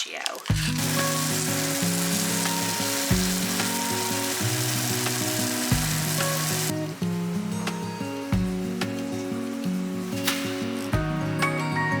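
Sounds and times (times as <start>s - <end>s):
background music: 0.5s - 12.0s
food sizzling in a frying pan: 0.5s - 12.0s.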